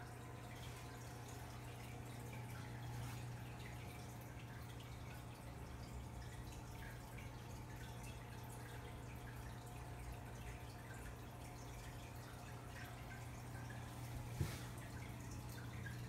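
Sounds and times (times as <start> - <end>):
filter low hum: 0.0 - 16.0
water trickling and dripping: 0.0 - 16.0.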